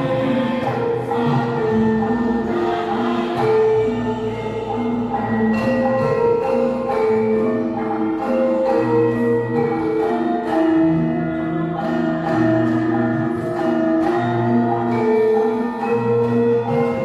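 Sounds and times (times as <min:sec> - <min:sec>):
gamelan playing: 0:00.0 - 0:17.0
gongs ringing: 0:00.0 - 0:17.0.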